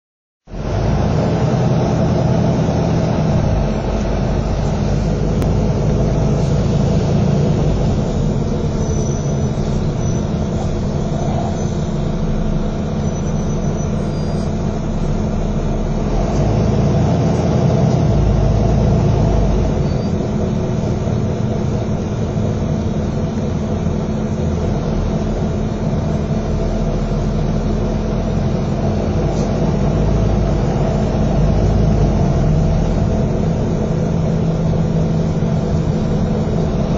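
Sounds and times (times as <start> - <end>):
bus diesel engine drone: 0.4 - 36.9.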